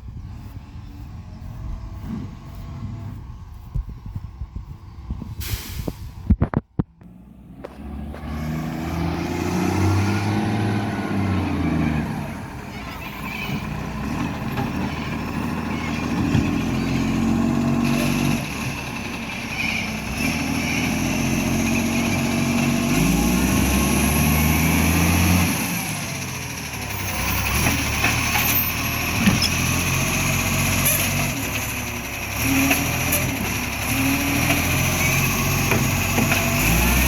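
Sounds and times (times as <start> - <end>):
diesel truck engine revving: 7.0 - 37.0.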